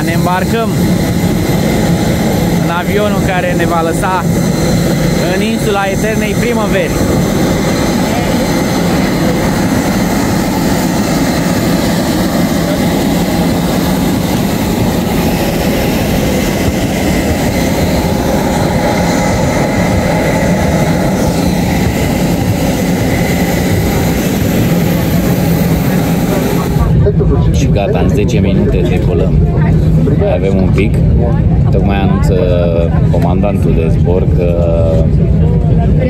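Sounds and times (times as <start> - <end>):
airliner engine hum: 0.0 - 36.0.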